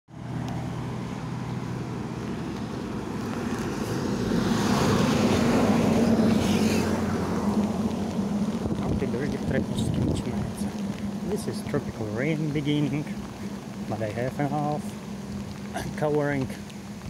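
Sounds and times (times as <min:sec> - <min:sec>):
vehicle engine humming: 0:00.1 - 0:17.0.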